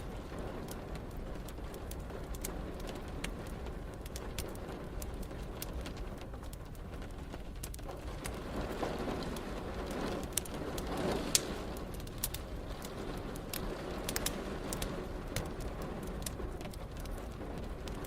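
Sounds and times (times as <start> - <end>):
rain hissing: 0.0 - 18.0
wood fire crackling: 0.0 - 18.0.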